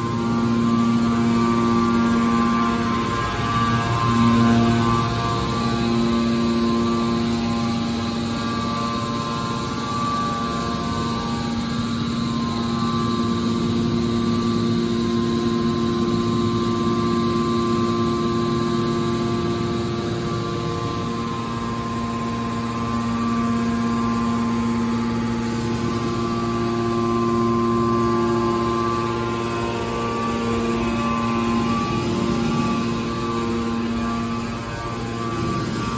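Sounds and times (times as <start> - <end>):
hydraulic power unit humming: 0.0 - 35.9.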